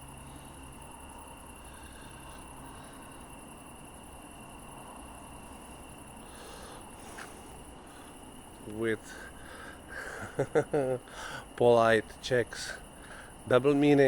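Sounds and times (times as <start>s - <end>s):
constant high-pitched tone: 0.0s - 14.0s
low hum: 0.0s - 14.0s.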